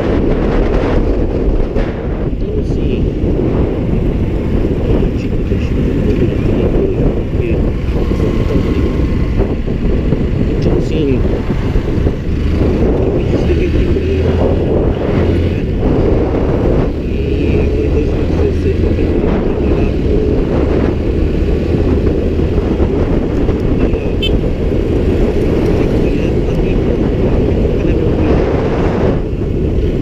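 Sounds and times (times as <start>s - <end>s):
vehicle road rumble: 0.0s - 30.0s.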